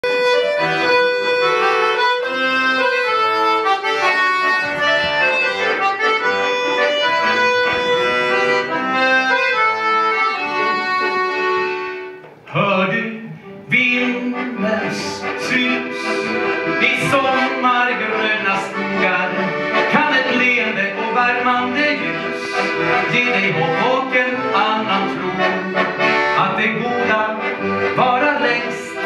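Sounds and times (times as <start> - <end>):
button accordions playing folk tune: 0.0 - 29.0.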